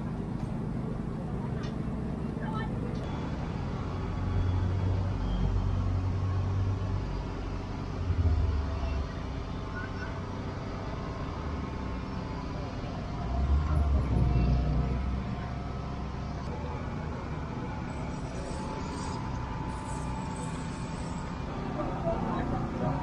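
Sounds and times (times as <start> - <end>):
street market din: 0.0 - 23.0.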